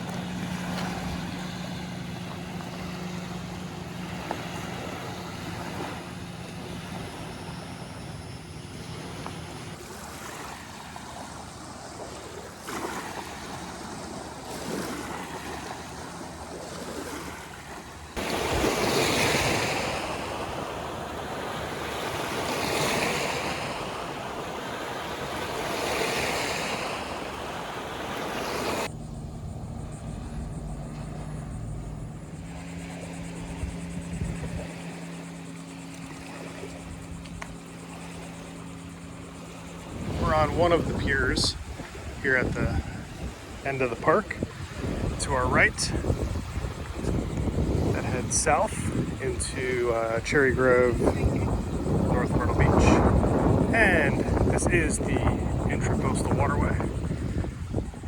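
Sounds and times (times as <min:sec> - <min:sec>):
rushing water: 0:00.0 - 0:29.0, 0:31.8 - 0:58.0
distant motor drone: 0:00.0 - 0:58.0
rushing wind: 0:00.0 - 0:58.0.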